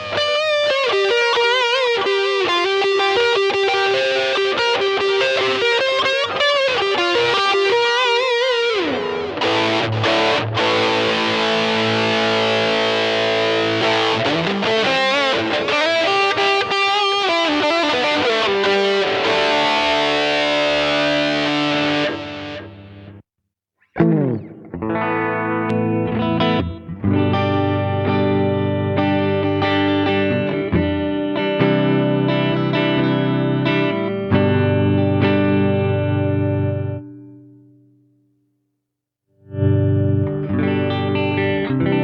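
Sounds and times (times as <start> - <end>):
distorted electric guitar: 0.0 - 23.2, 23.8 - 37.8, 39.4 - 42.0.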